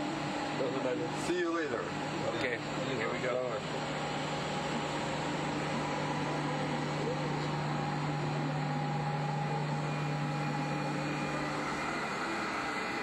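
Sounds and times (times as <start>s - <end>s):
ventilation fans humming and hissing: 0.0s - 13.0s.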